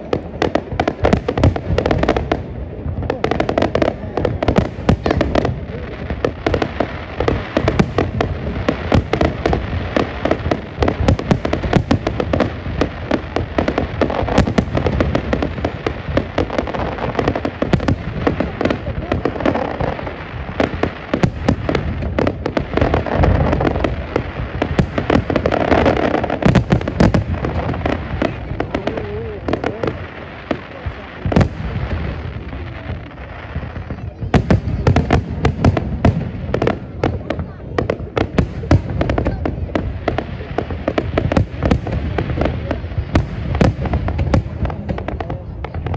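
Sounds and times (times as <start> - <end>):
fireworks bangs and crackles: 0.0 - 45.9
onlookers' voices: 0.0 - 45.9.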